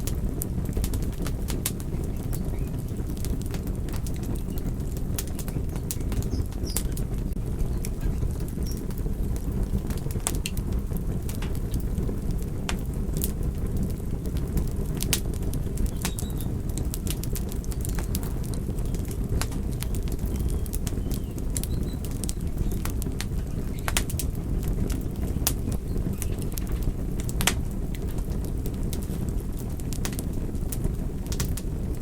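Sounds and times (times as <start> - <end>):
fire crackling and popping: 0.0 - 32.0
low rush of flames: 0.0 - 32.0.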